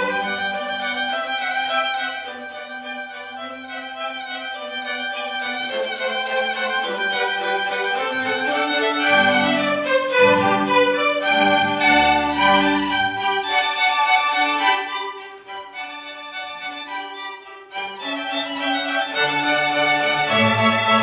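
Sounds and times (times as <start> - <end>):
string music with violin melody: 0.0 - 21.0.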